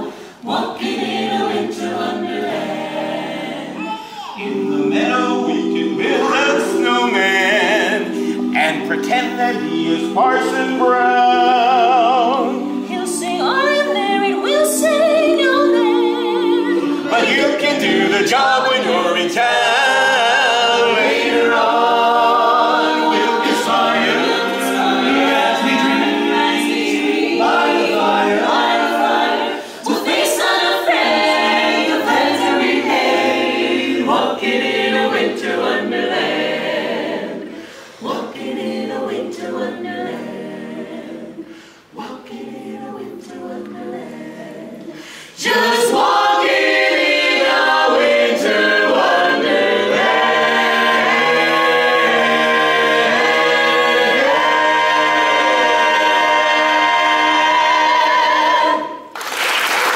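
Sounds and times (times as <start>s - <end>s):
mixed choir singing a cappella: 0.0s - 59.9s.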